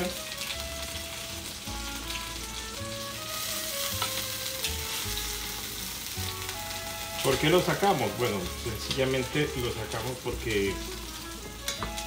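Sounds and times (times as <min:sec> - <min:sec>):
background music: 0:00.0 - 0:12.0
meat sizzling in hot oil: 0:00.0 - 0:12.0.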